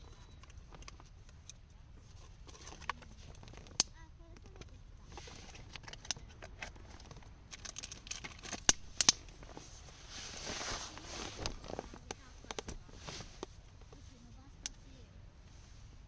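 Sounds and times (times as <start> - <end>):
sharp clicks and crackles: 0.0 - 9.6, 10.4 - 14.9
rustling: 0.0 - 16.0.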